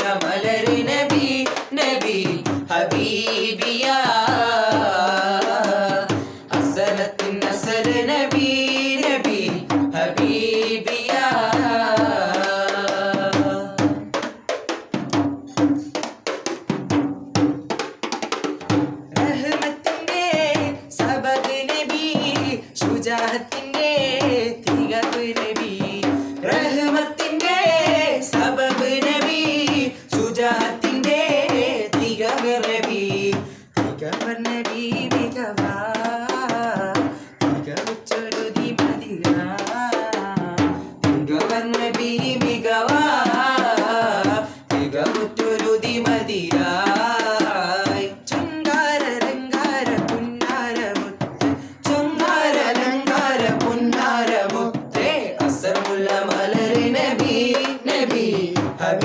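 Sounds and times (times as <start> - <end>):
men singing together: 0.0 - 14.4, 19.1 - 59.0
frame drum rhythm: 0.0 - 59.0.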